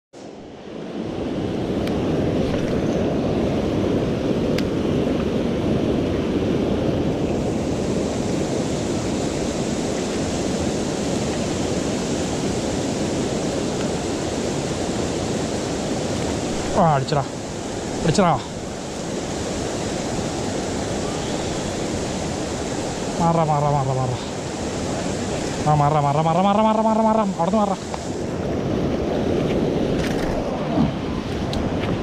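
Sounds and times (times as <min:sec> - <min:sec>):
river water rushing over weir: 0:00.2 - 0:32.0.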